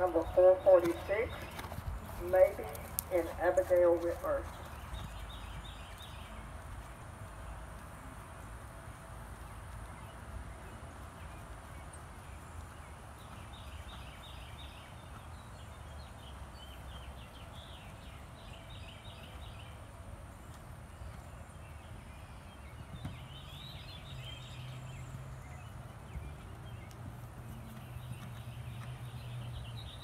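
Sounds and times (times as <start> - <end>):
birds chirping: 0.0 - 8.0, 9.4 - 30.0.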